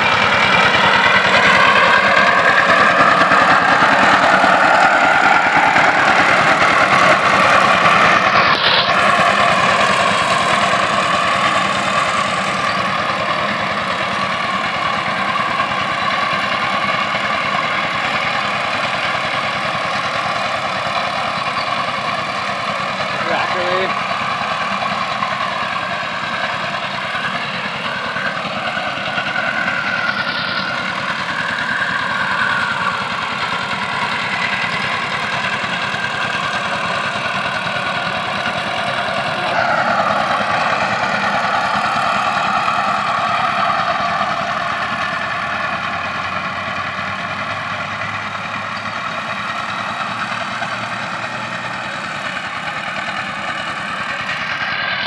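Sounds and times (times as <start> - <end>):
diesel tiller engine running: 0.0 - 55.0.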